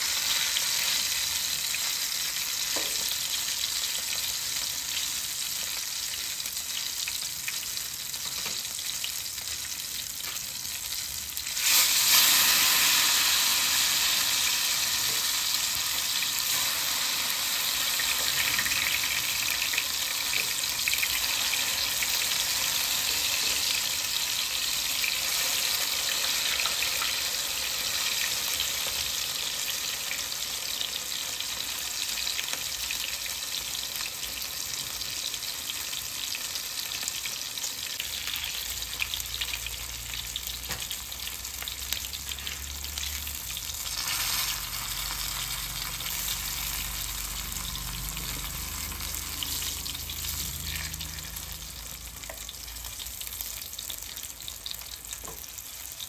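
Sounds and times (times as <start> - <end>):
omelette sizzling in oil: 0.0 - 56.0.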